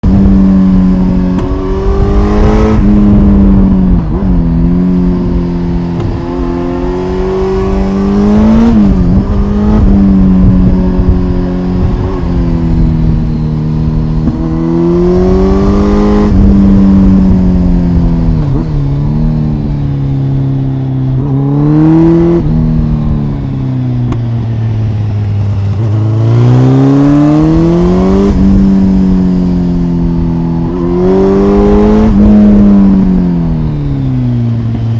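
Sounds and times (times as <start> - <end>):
motorcycle engine revving: 0.0 - 34.9
wind and road noise: 0.0 - 34.9.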